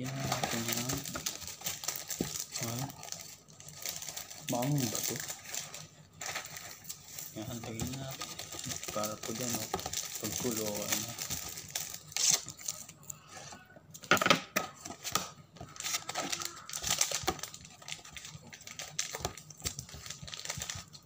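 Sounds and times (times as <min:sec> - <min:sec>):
plastic wrapping tearing and crinkling: 0:00.0 - 0:13.3, 0:14.8 - 0:21.0.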